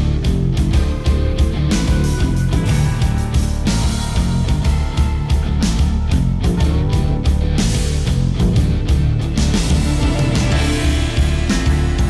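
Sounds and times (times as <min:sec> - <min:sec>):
driving drum beat: 0:00.0 - 0:12.0
rock music with electric guitar: 0:00.0 - 0:12.0.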